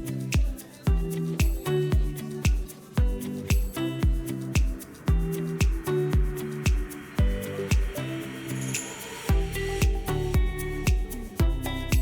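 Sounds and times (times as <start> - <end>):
kick drum beat: 0.0 - 8.0, 9.3 - 12.0.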